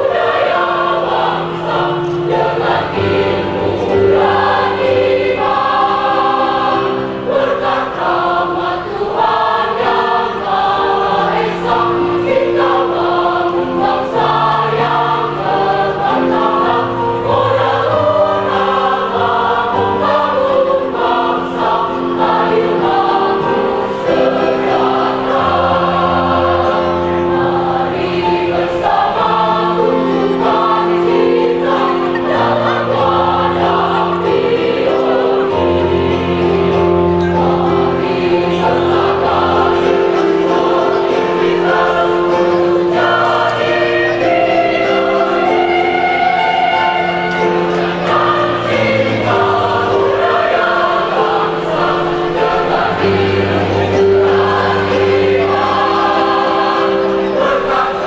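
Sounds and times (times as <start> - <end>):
women's choir singing a march: 0.0 - 58.0.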